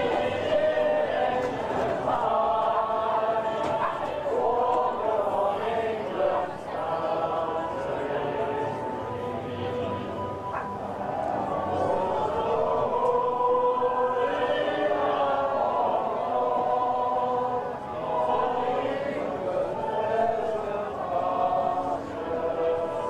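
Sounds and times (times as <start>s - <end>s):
choir singing an anthem: 0.0s - 23.0s.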